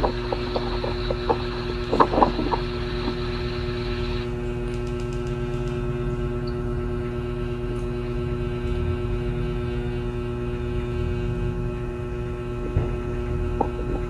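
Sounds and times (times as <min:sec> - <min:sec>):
low hum with pitched tones: 0:00.0 - 0:14.0.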